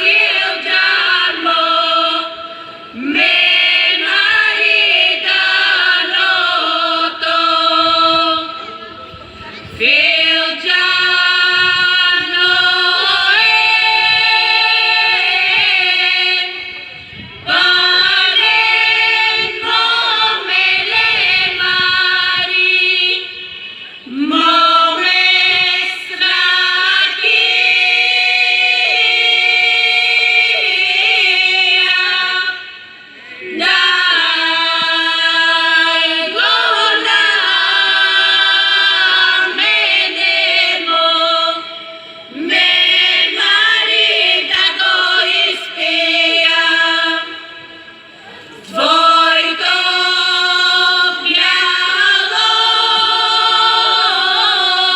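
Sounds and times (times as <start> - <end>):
women singing unaccompanied: 0.0 - 8.7, 9.7 - 54.9.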